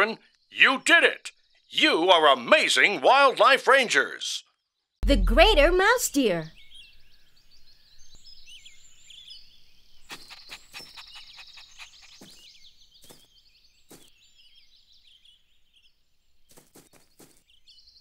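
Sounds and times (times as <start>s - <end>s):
birds chirping: 0.0s - 3.3s, 5.0s - 18.0s.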